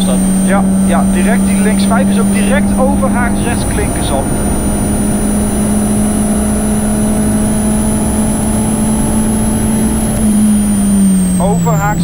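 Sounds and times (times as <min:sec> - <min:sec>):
car engine at high revs: 0:00.0 - 0:12.0
thin high whine: 0:00.0 - 0:12.0.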